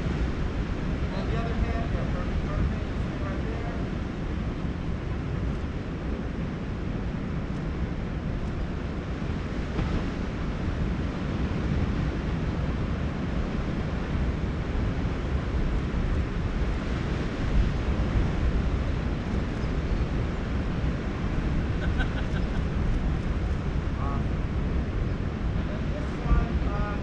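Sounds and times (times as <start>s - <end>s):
ocean surf: 0.0s - 27.0s
wind buffeting microphone: 0.0s - 27.0s.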